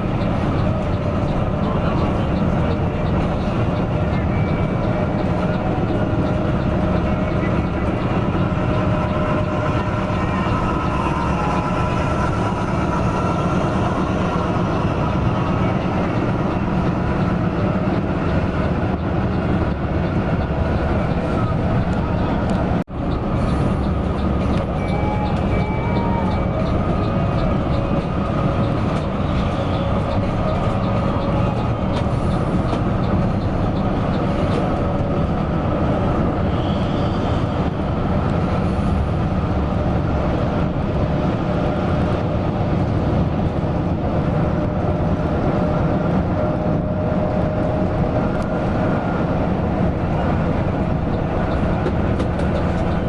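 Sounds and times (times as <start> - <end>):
coach engine and road drone: 0.0 - 53.0.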